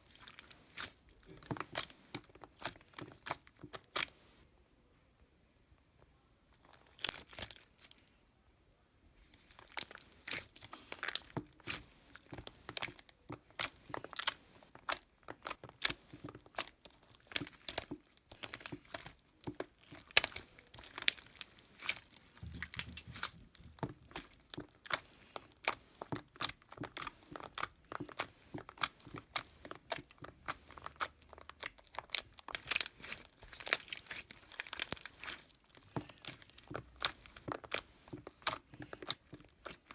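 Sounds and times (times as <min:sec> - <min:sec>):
slime crackling as squeezed: 0:00.0 - 0:04.2, 0:06.6 - 0:08.0, 0:09.4 - 0:39.9.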